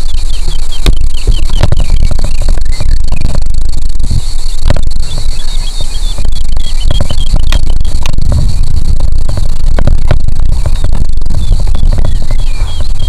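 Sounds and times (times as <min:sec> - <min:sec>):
scattered ticks: 0:00.0 - 0:13.0
wind rumble on microphone: 0:00.0 - 0:13.0.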